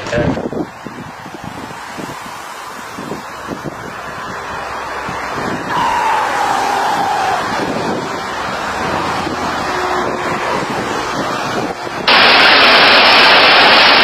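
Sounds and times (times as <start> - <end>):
airplane engine rushing: 0.0 - 14.0
wind: 0.0 - 14.0.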